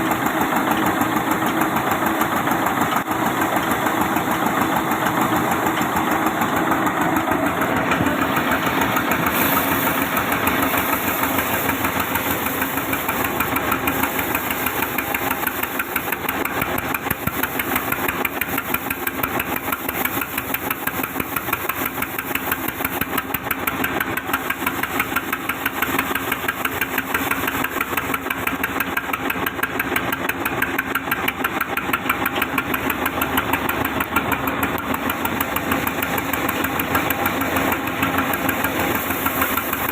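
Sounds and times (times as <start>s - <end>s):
sawmill saw rattling: 0.0s - 39.9s.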